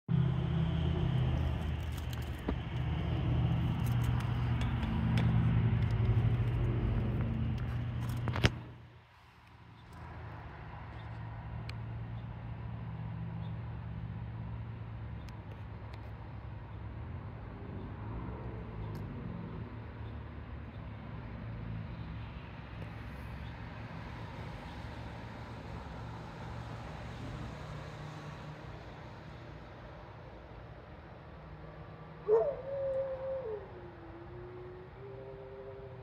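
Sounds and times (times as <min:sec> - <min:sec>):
vehicle engine humming: 0:00.1 - 0:36.0.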